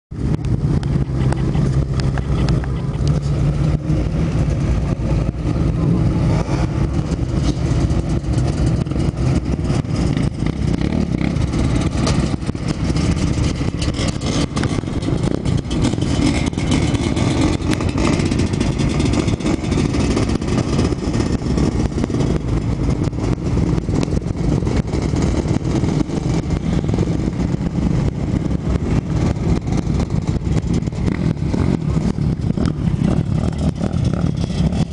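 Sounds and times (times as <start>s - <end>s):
motorcycle engines revving: 0.1s - 34.9s.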